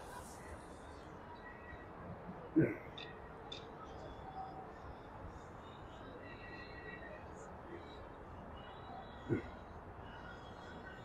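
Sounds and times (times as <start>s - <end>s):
faint distant voices: 0.0s - 11.0s
outdoor background noise: 0.0s - 11.0s.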